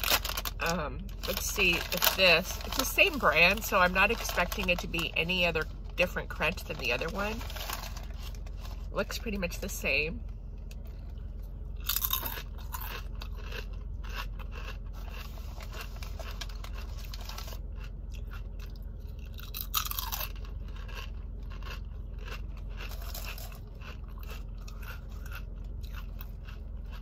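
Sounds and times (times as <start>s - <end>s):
chewing crunchy potato chip: 0.0s - 8.9s, 10.7s - 27.0s.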